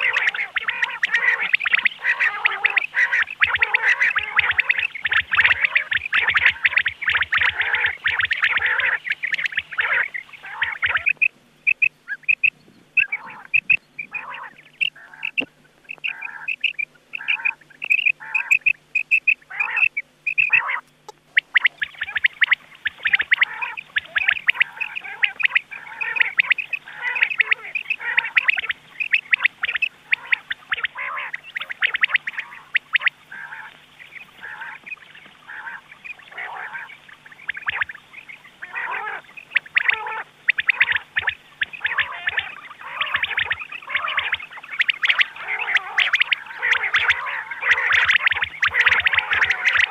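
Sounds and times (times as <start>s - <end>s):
quail calling: 0.0s - 49.9s.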